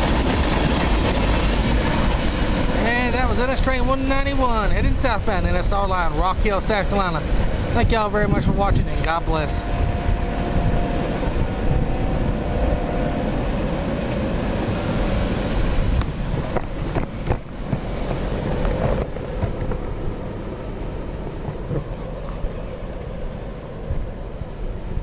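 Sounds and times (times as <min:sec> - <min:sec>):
wind on microphone: 0:00.0 - 0:25.0.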